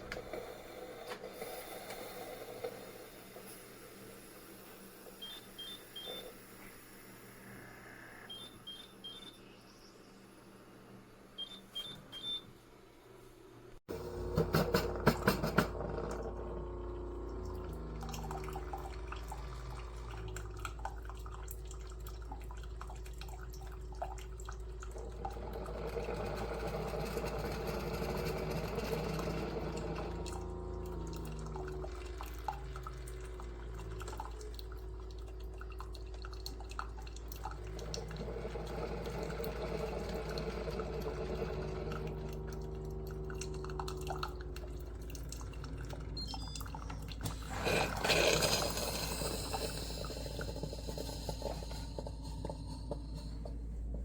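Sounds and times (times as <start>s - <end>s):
coffee gurgling and dripping: 0.0s - 9.2s, 13.8s - 54.0s
pump humming and rattling: 0.0s - 9.6s, 13.8s - 54.0s.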